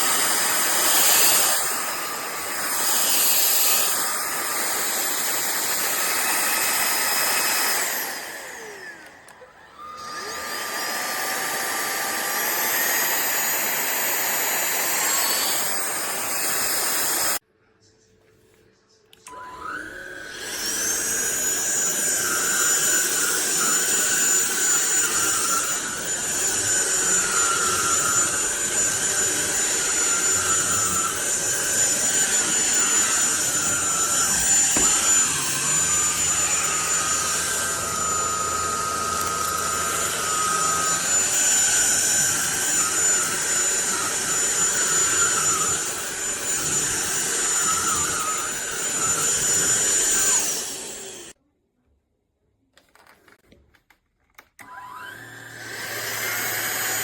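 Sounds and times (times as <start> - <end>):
stick vacuum cleaner whining: 0.0 - 17.4, 19.1 - 51.4, 53.0 - 57.0.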